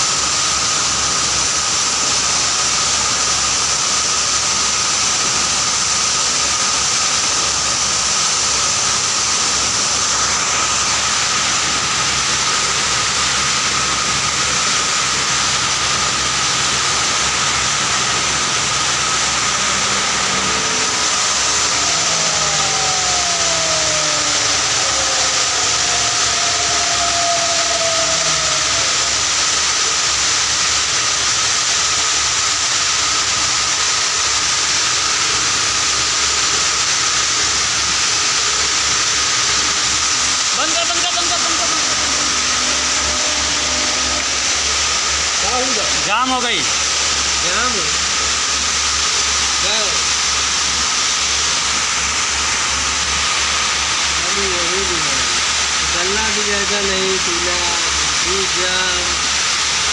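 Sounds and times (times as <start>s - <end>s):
grinder machine whining: 0.0s - 59.9s.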